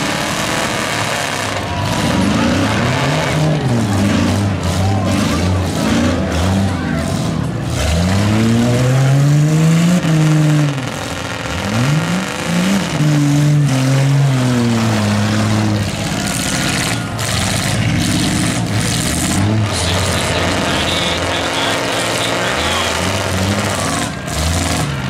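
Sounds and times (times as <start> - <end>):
truck engines revving: 0.0 - 25.0.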